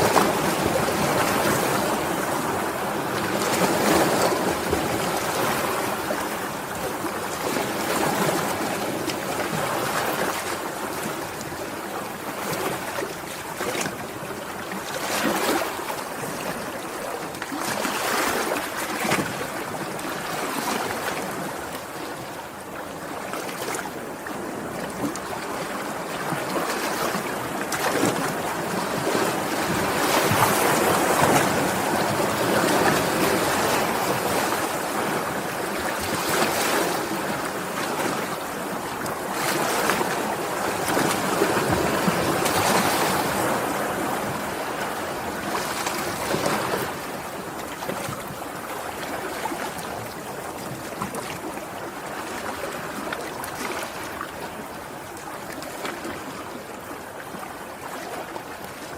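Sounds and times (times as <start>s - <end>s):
sea waves breaking: 0.0s - 58.9s.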